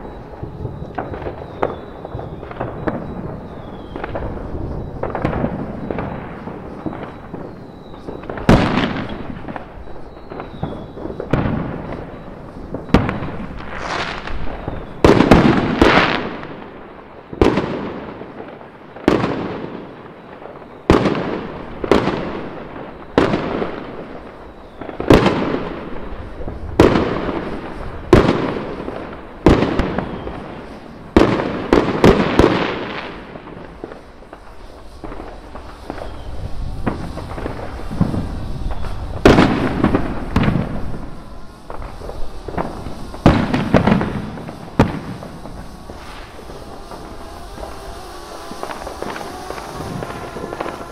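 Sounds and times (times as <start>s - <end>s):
fireworks bangs with rumbling echo: 0.0s - 50.9s.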